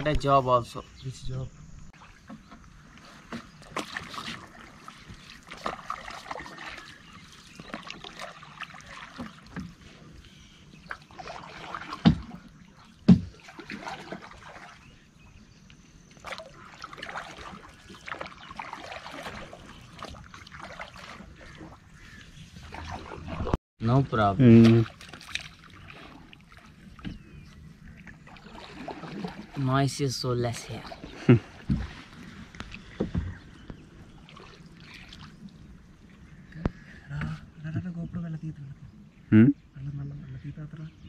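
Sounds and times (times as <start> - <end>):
paddle strokes splashing water: 1.9 - 23.6, 24.5 - 36.9.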